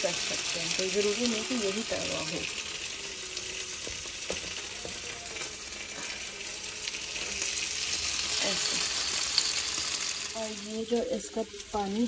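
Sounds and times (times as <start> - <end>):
chicken sizzling in pans: 0.0 - 12.0.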